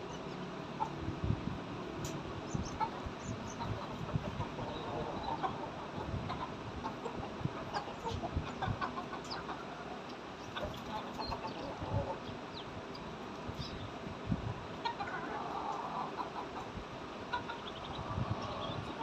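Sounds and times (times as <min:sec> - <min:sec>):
chicken calls: 0:00.0 - 0:01.0, 0:02.0 - 0:14.0, 0:14.6 - 0:19.0
chickens clucking softly: 0:00.0 - 0:19.0.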